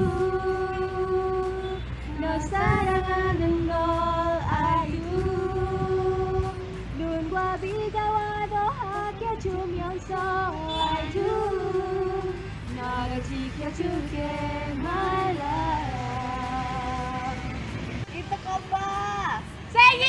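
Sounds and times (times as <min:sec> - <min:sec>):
women singing together: 0:00.0 - 0:17.8.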